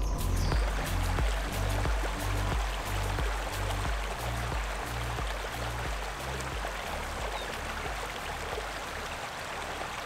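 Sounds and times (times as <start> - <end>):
low bass background music: 0.0 - 9.8
stream water rushing: 0.0 - 10.0.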